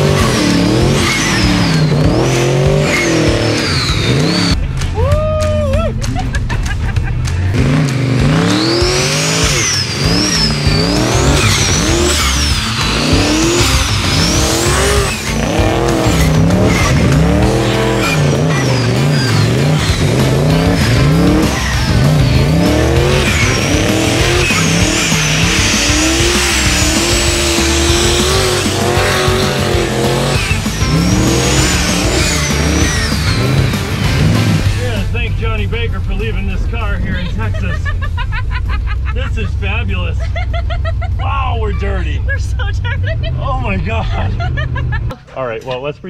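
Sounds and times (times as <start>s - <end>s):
turbo whine: 0.0s - 4.7s, 7.6s - 43.0s
car engine revving: 0.0s - 5.0s, 5.8s - 45.1s.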